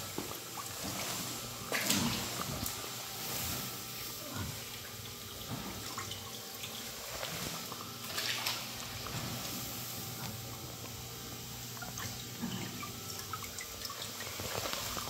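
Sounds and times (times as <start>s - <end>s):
water splashing and dripping: 0.0s - 3.8s, 4.5s - 11.0s, 11.6s - 15.0s.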